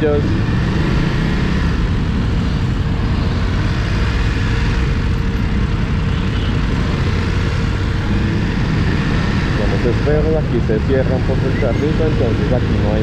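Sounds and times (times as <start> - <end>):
motorcycle engine at low revs: 0.0 - 13.0
traffic rumble: 0.0 - 13.0.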